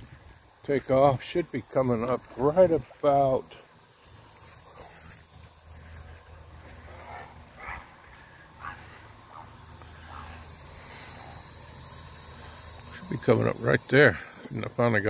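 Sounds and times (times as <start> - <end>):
high insect drone: 0.0 - 15.0
low hum: 0.0 - 15.0.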